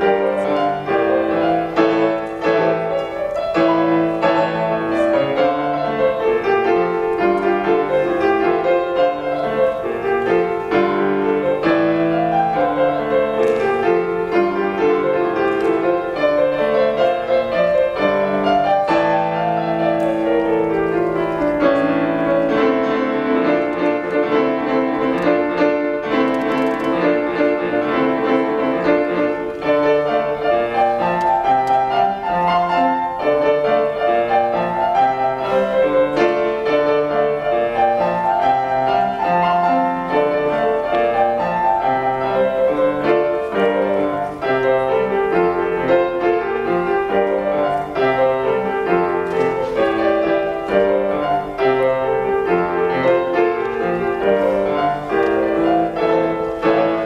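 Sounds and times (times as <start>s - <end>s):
solo acoustic piano: 0.0s - 57.0s.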